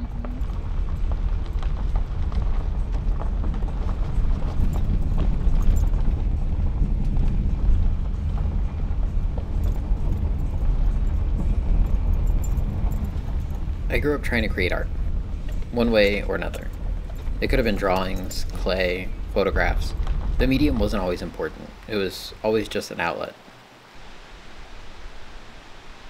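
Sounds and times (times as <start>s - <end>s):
tyres rumbling on road: 0.0s - 24.5s
gravel crunching under wheels: 0.0s - 26.0s.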